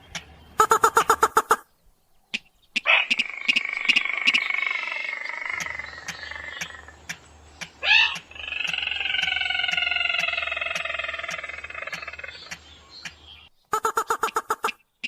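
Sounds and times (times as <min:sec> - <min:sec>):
bird lure calls: 0:00.0 - 0:01.7, 0:02.3 - 0:14.8.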